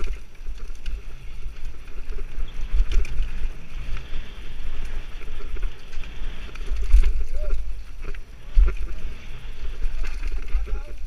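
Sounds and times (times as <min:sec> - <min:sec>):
bike rattles and clicks: 0:00.0 - 0:11.0
tyre noise on dirt: 0:00.0 - 0:11.0.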